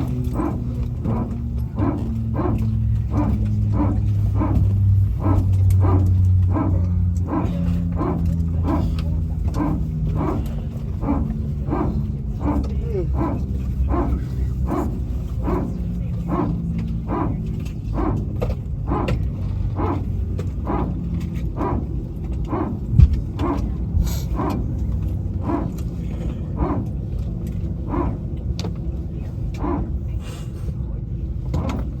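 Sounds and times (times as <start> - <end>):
hydraulic pump barking: 0.0 - 30.8, 31.4 - 32.0
aircraft cabin rumble: 0.0 - 32.0.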